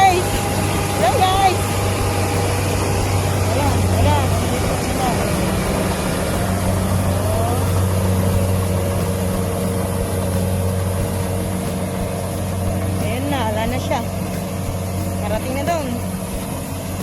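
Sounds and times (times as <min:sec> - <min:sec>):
harvester engine humming: 0:00.0 - 0:17.0.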